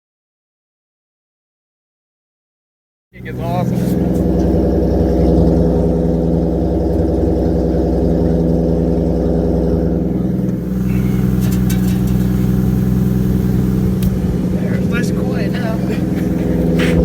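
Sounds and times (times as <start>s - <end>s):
car engine idling: 3.2s - 17.0s.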